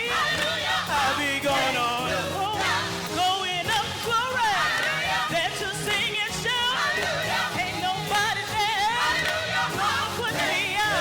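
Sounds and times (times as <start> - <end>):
gospel singing: 0.0 - 11.0.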